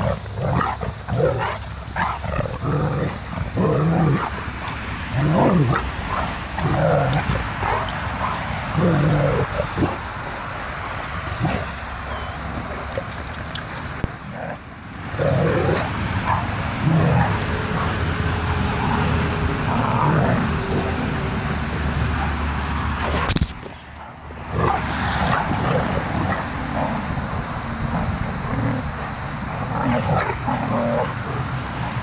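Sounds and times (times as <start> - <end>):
dogs yipping and barking: 0.0 - 20.9, 21.8 - 32.0.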